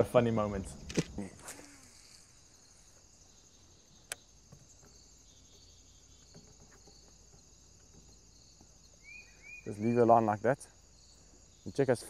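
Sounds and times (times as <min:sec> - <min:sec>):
high-pitched insect chirping: 0:00.1 - 0:12.0.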